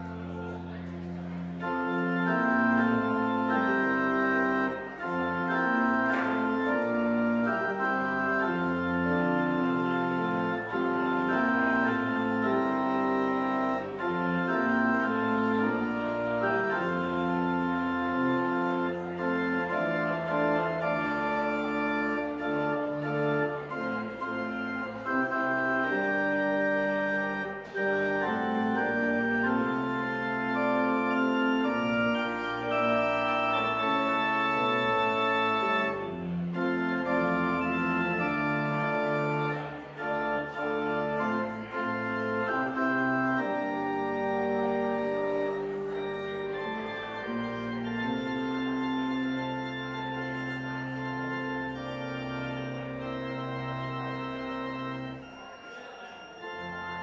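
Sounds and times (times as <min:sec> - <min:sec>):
organ playing held chords: 0:00.0 - 0:57.0.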